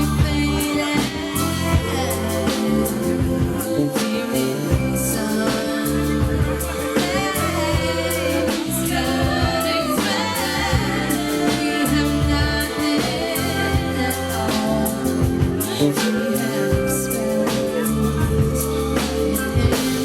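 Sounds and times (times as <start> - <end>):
live band playing: 0.0 - 20.0
person singing: 0.0 - 20.0.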